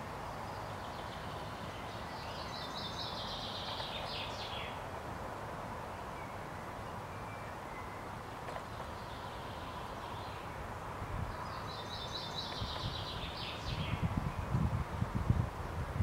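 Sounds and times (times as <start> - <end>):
small bird singing: 0.4 - 4.8, 5.9 - 14.8.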